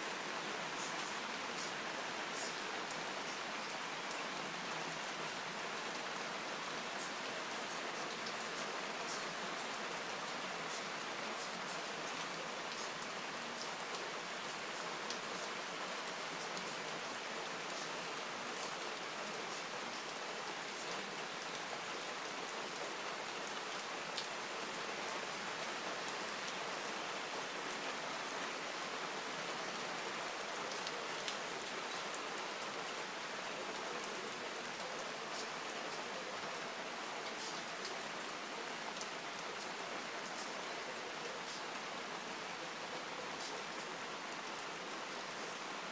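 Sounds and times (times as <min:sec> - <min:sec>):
raindrops ticking on surfaces: 0:00.0 - 0:45.9
steady rain hiss: 0:00.0 - 0:45.9.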